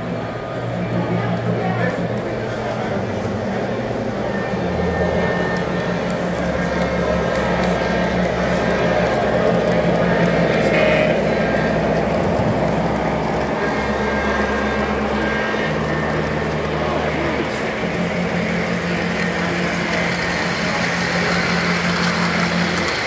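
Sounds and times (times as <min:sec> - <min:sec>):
model train motors humming: 0:00.0 - 0:23.0.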